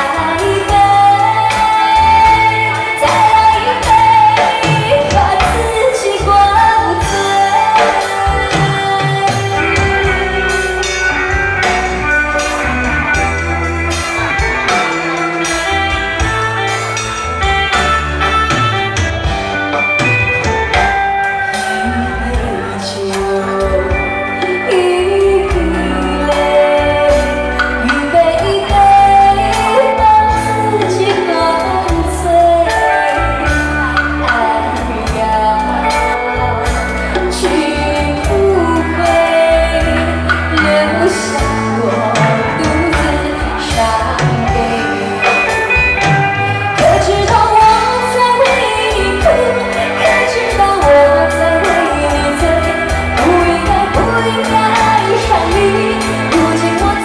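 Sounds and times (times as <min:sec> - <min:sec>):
pop backing track with beat: 0:00.0 - 0:57.0
woman singing: 0:00.0 - 0:57.0.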